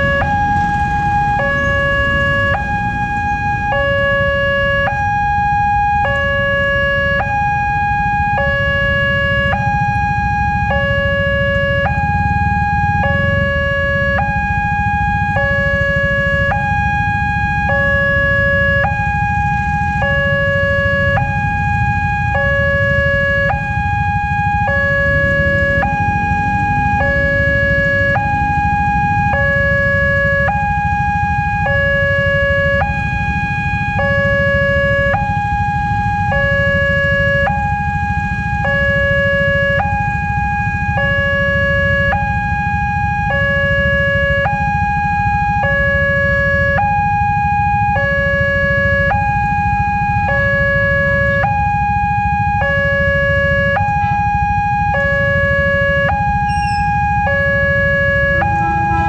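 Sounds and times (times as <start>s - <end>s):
level crossing two-tone alarm: 0.0s - 59.0s
low rumble of road traffic: 0.0s - 59.0s.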